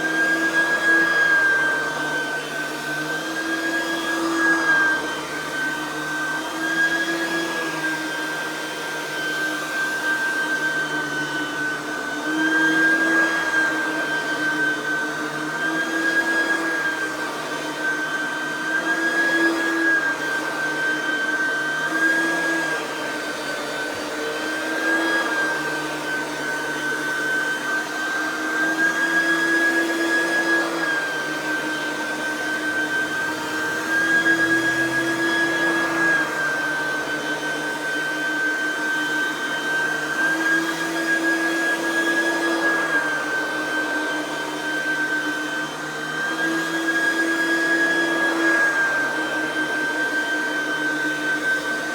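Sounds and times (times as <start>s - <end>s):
vacuum cleaner motor whine: 0.0s - 51.9s.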